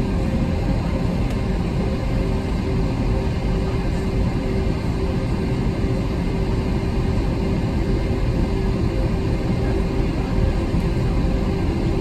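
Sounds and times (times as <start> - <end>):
aircraft cabin rumble and hum: 0.0 - 12.0.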